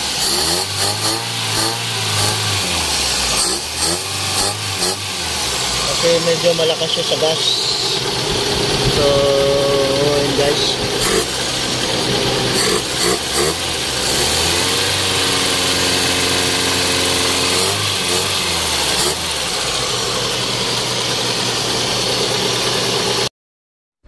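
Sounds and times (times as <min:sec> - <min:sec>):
car engine idling: 0:00.0 - 0:23.3.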